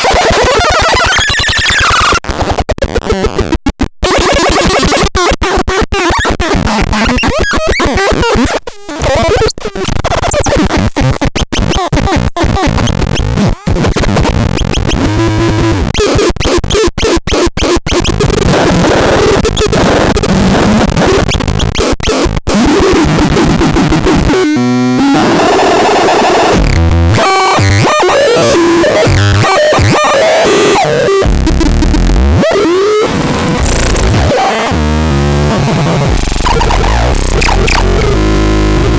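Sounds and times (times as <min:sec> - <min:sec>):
harsh glitchy electronic noise: 0:00.0 - 0:38.9.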